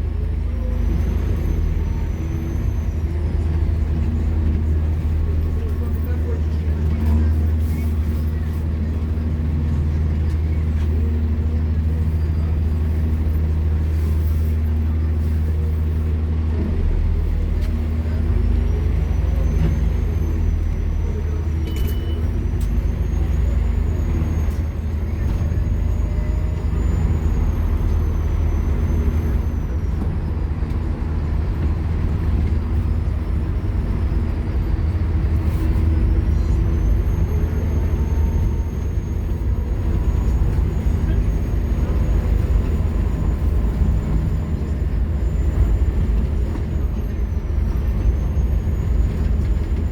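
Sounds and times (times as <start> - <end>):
bus engine running hard: 0.0 - 49.9.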